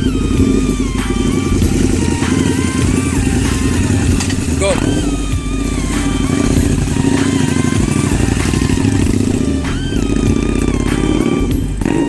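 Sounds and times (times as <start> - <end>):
melodic music: 0.0 - 12.0
motorcycle engine running hard: 0.0 - 12.0.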